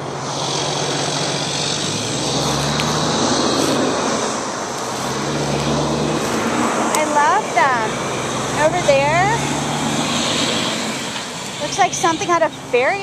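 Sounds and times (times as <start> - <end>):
low engine hum: 0.0 - 13.0
road traffic passing: 0.0 - 13.0.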